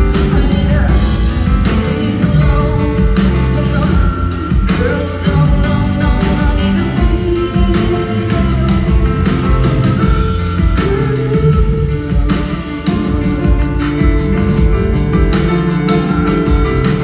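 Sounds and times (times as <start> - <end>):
live pop-rock band: 0.0 - 17.0
person singing: 0.0 - 17.0.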